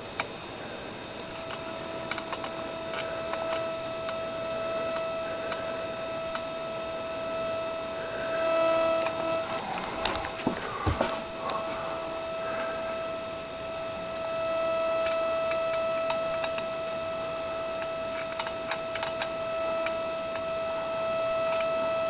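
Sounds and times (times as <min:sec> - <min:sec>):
steady electronic hum: 0:00.0 - 0:22.0.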